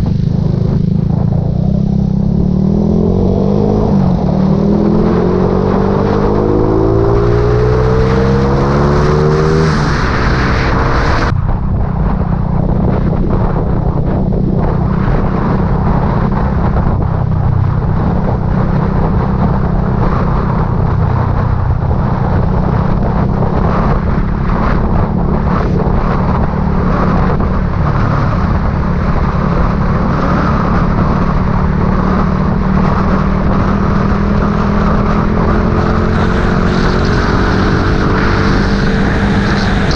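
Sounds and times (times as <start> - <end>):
road and wind noise: 0.0 - 39.9
vehicle engine accelerating: 0.0 - 39.9.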